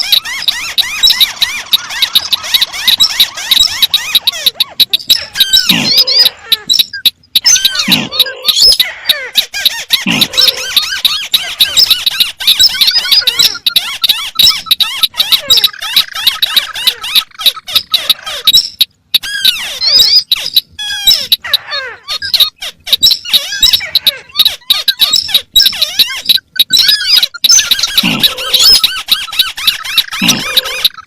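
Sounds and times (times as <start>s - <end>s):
crakes calling: 0.0s - 31.0s.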